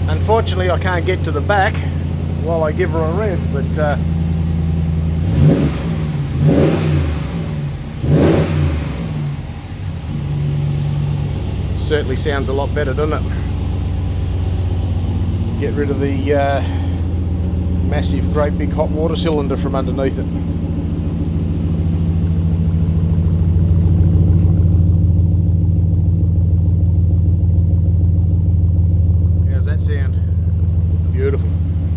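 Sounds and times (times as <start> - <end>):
engine idling: 0.0 - 31.9
engine revving: 0.0 - 31.9.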